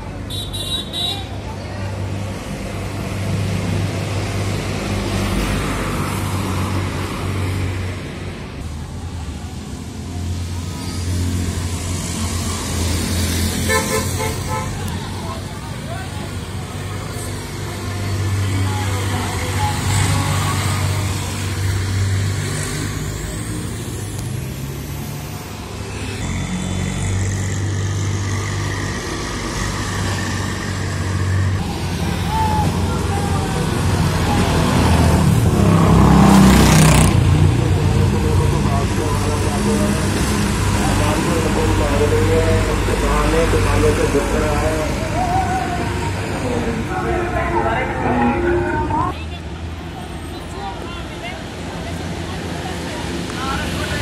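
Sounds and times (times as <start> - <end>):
vehicle engines humming: 0.0 - 54.0
vehicle passing by: 9.8 - 54.0.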